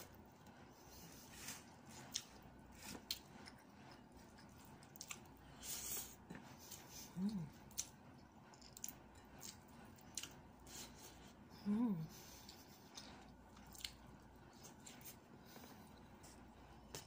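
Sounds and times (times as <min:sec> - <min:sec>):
faint chewing: 0:00.0 - 0:17.0.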